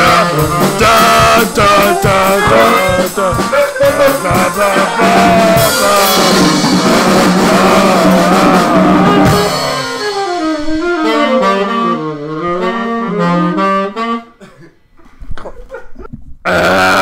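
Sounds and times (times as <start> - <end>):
backing band: 0.0 - 14.4
jazz saxophone: 0.0 - 14.4.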